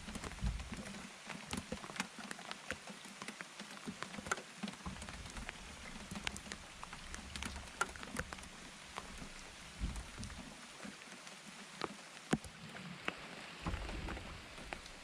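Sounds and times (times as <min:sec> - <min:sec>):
raindrops ticking on a surface: 0:00.0 - 0:15.0
soft steady rain hiss: 0:00.0 - 0:15.0.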